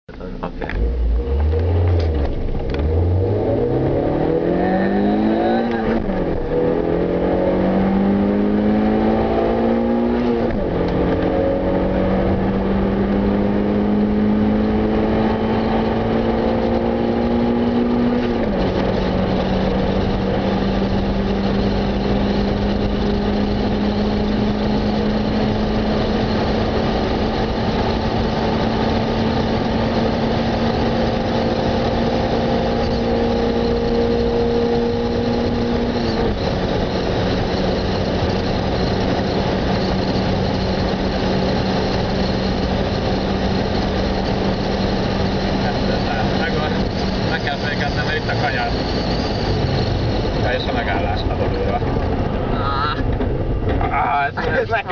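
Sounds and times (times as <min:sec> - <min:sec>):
car engine accelerating: 0:00.1 - 0:54.9.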